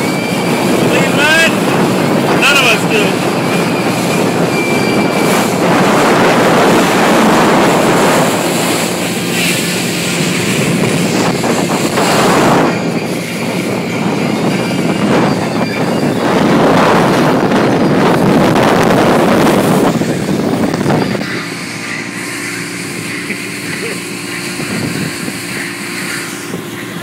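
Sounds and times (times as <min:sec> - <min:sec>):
boat engine drone: 0:00.0 - 0:27.0
water rushing past hull: 0:00.0 - 0:27.0
wind on microphone: 0:00.0 - 0:27.0.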